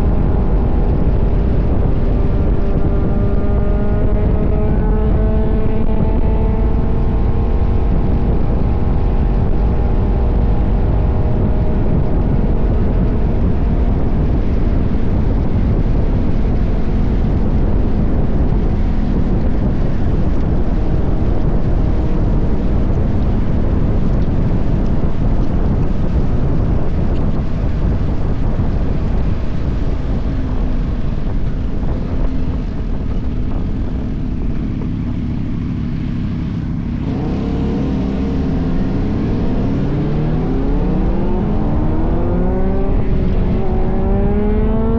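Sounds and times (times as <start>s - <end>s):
motorcycle engine running: 0.0s - 44.9s
wind rush on microphone: 0.0s - 44.9s.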